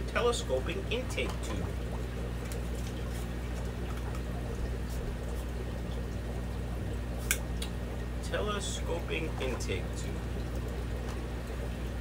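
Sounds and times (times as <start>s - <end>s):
aquarium hum: 0.0s - 12.0s
trickling water: 0.0s - 12.0s.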